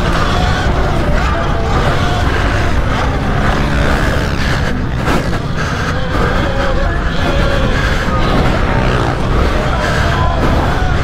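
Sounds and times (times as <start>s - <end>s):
motorbike engines running: 0.0s - 11.0s.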